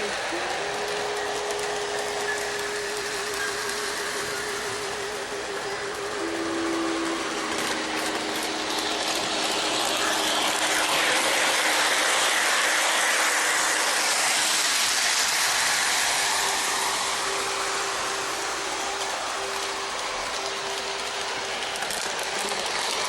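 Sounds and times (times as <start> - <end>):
model train rattling on track: 0.0 - 23.0.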